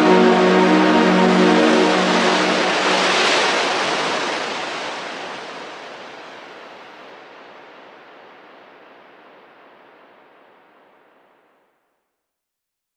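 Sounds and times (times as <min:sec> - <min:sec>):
ocean surf: 0:00.0 - 0:10.6.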